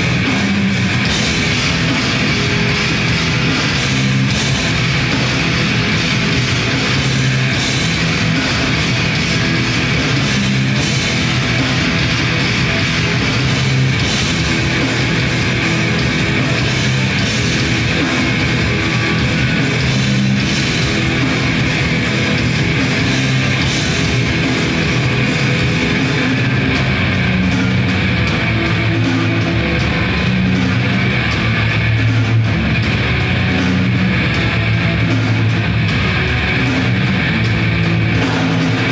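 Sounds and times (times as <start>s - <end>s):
distorted electric guitars: 0.0s - 38.9s
fast dense drumming: 0.0s - 38.9s.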